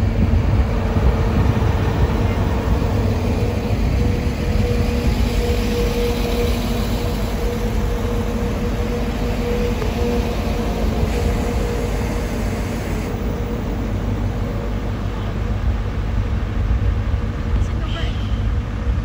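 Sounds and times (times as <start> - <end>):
train engines humming: 0.0 - 19.0.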